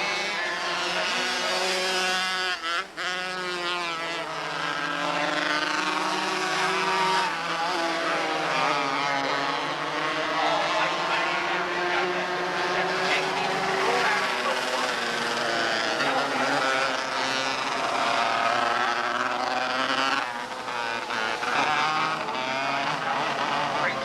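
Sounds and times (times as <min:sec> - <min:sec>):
small race car engines lapping: 0:00.0 - 0:24.0.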